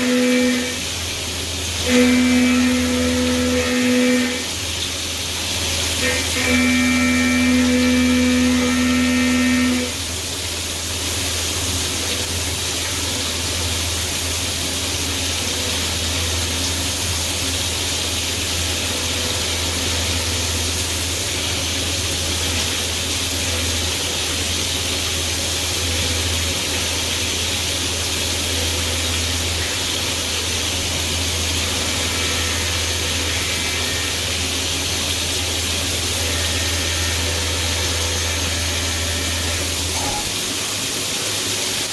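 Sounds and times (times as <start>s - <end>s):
loud steady machine whine: 0.0s - 41.9s.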